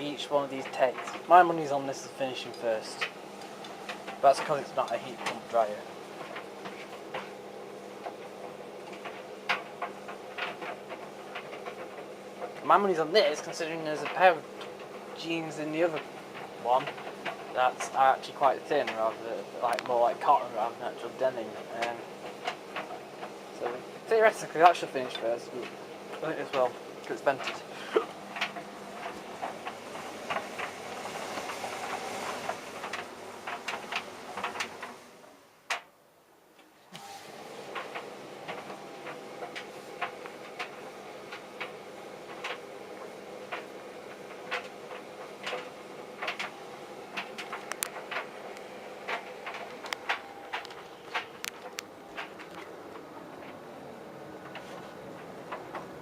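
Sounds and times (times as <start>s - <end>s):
clothes knocking in dryer drums: 0.0s - 35.0s, 37.4s - 56.0s
tumble dryers humming: 0.0s - 35.7s, 36.4s - 56.0s.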